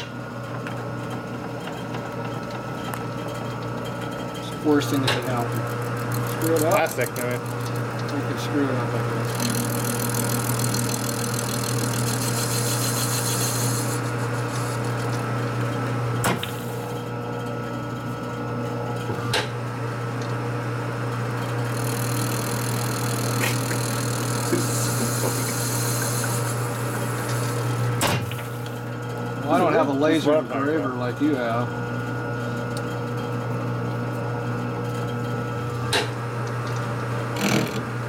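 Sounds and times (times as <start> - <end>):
lathe motor hum: 0.0 - 19.8, 20.5 - 38.0.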